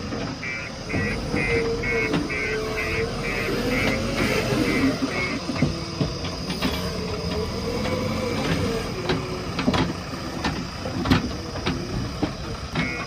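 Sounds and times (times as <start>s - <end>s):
backhoe loader engine running: 0.0s - 13.0s.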